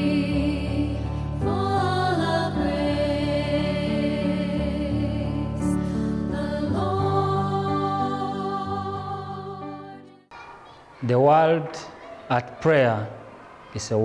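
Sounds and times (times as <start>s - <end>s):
wordless singing: 0.0s - 14.0s.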